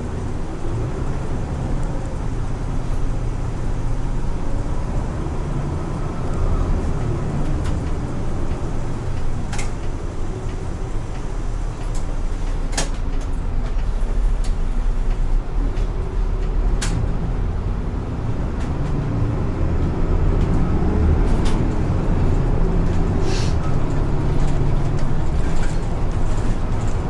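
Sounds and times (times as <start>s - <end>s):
bus engine and road rumble: 0.0s - 27.0s.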